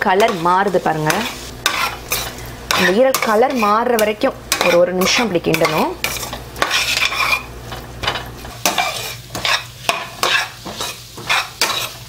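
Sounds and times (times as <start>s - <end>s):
liver sizzling in a pan: 0.0s - 12.0s
spoon scraping a steel pan: 0.1s - 12.0s.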